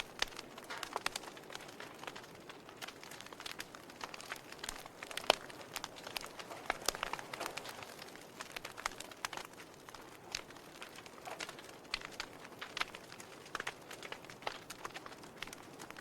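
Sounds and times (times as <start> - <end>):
soft steady fire hiss: 0.0 - 16.0
wood fire crackling and popping: 0.0 - 16.0.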